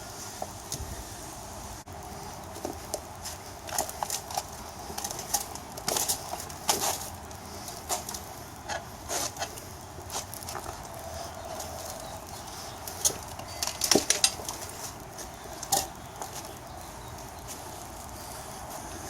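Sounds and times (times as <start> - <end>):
tire irons clinking on wheel rim: 1.9 - 19.0.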